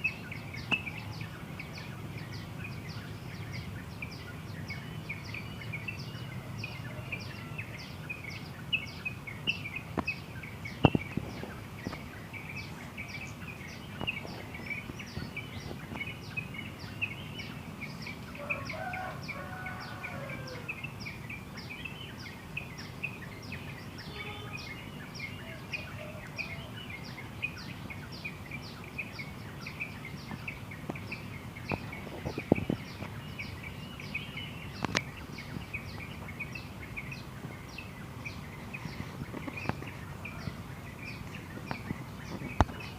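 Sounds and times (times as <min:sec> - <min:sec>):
birds chirping and twittering: 0:00.0 - 0:42.9.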